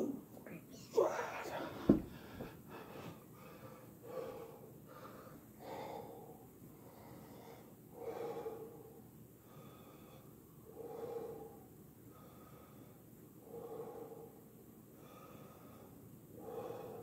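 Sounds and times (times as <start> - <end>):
man breathing hard: 1.1 - 17.0.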